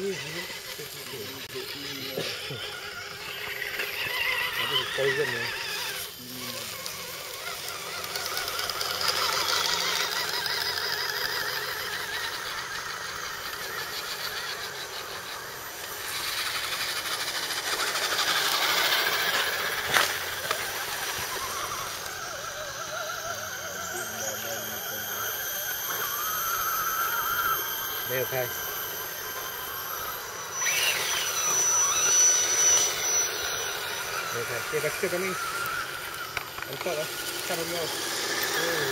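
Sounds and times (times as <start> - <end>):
toy truck motors whining: 0.0 - 38.9.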